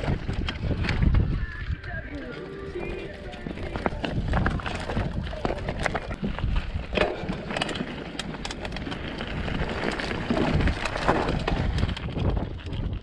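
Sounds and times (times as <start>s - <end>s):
bike rattling: 0.0s - 13.0s
tyres crunching on gravel: 0.0s - 13.0s
wind rumble on microphone: 0.0s - 13.0s.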